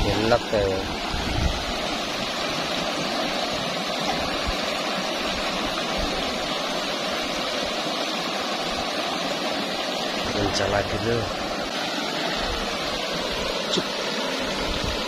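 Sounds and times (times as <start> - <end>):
river water rushing over riffle: 0.0 - 15.0.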